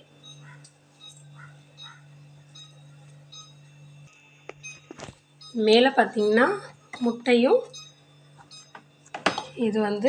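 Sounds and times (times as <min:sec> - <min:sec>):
refrigerator alarm beeping: 0:00.0 - 0:10.0
steady low hum: 0:00.0 - 0:10.0.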